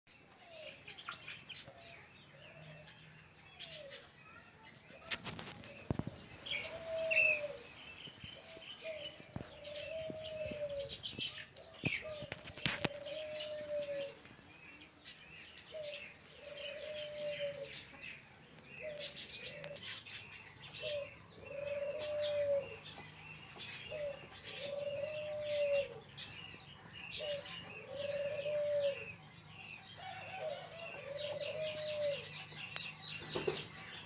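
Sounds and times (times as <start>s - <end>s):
small birds chirping: 0.1s - 34.0s
low cooing calls: 5.0s - 15.0s, 15.6s - 34.0s.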